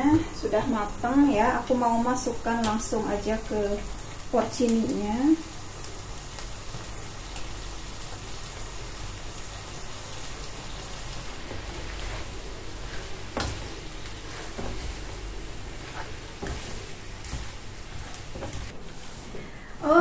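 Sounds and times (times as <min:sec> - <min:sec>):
mushrooms sizzling in a frying pan: 0:00.0 - 0:20.0.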